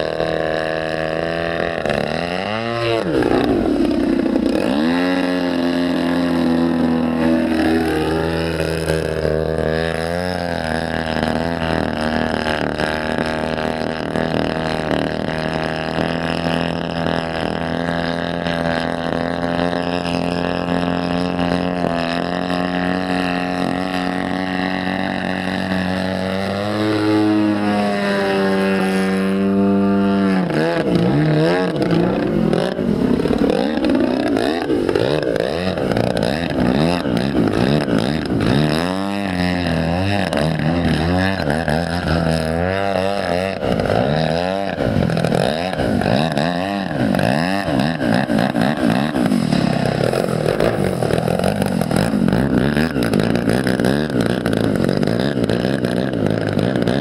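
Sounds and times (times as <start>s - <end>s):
model plane engine in flight: 0.0s - 57.0s.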